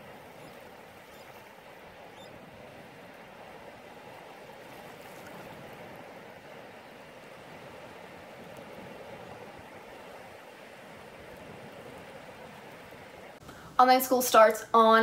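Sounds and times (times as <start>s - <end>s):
small waves breaking on beach: 0.0s - 13.8s.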